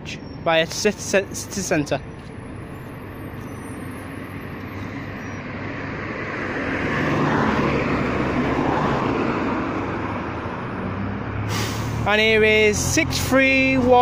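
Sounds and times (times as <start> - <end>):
bus passing: 0.0 - 14.0.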